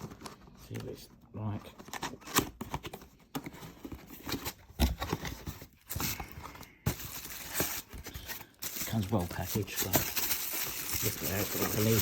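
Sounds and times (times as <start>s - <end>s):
packaging rustling: 1.7s - 12.0s.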